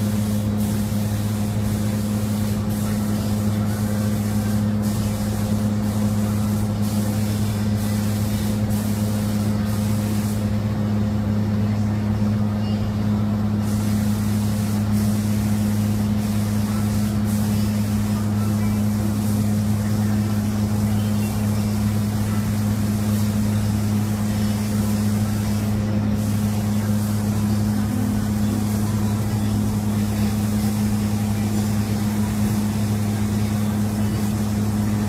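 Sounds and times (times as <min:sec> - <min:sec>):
paint spray gun hissing: 0:00.0 - 0:10.7, 0:13.5 - 0:35.0
steady low hum: 0:00.0 - 0:35.0.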